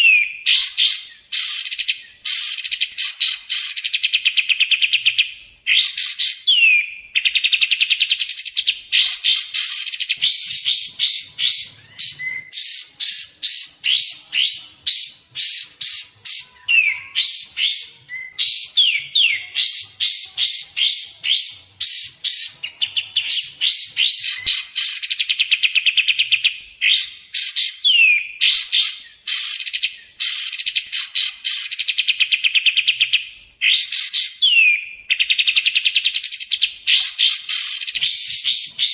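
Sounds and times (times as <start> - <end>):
songbird trilling and whistling: 0.0 - 38.9.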